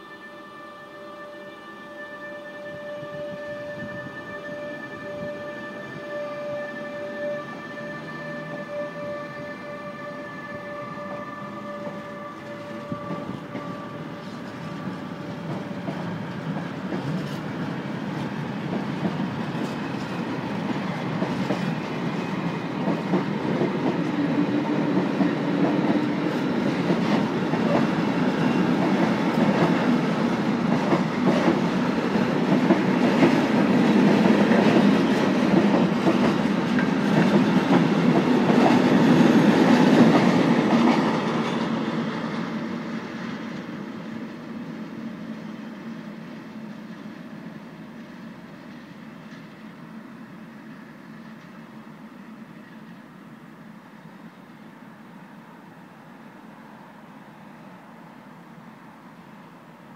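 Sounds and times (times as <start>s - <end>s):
freight train wheels rumbling: 2.6s - 54.7s.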